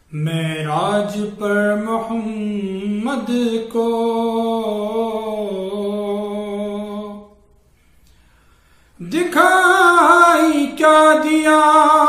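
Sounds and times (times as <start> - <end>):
man reciting unaccompanied: 0.0 - 7.6, 9.0 - 12.0.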